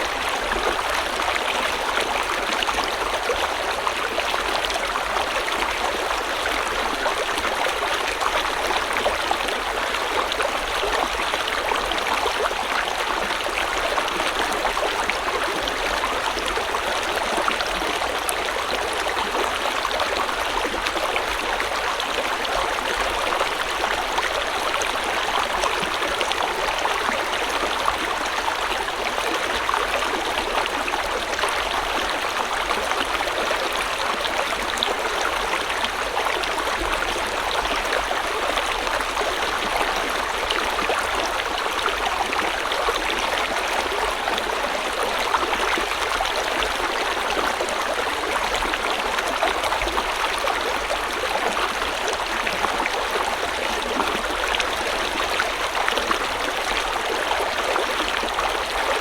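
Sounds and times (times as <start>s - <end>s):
stream water splashing and burbling: 0.0s - 59.0s.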